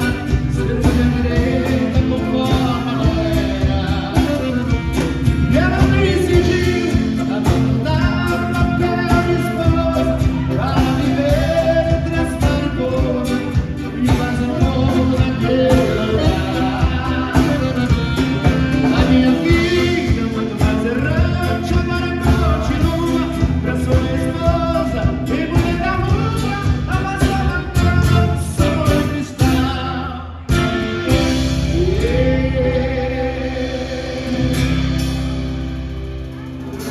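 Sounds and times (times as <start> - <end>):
person singing a melody: 0.0 - 35.4
instrumental accompaniment: 0.0 - 36.9.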